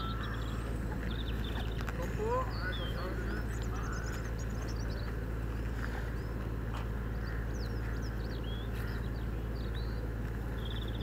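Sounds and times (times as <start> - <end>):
small birds chirping and trilling: 0.0 - 11.0
steady low rumble: 0.0 - 11.0.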